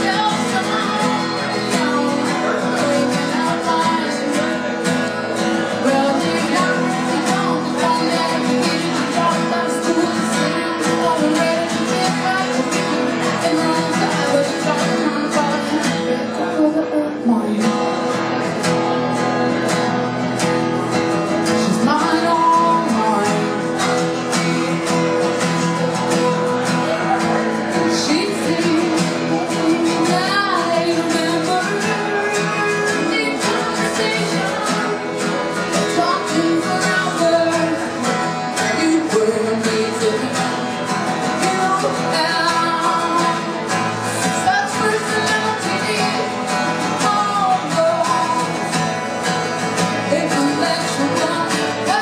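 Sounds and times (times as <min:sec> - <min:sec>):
woman singing: 0:00.0 - 0:18.2, 0:21.2 - 0:52.0
acoustic guitar strumming: 0:00.0 - 0:52.0.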